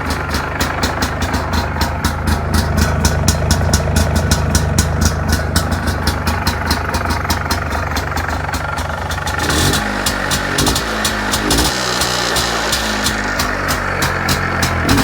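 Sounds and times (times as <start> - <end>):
two-stroke engine idling: 0.0 - 15.0.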